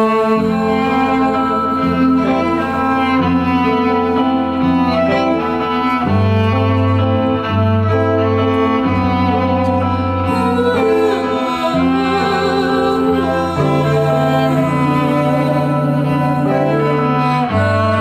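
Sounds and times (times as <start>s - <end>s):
bowed strings music: 0.0s - 18.0s.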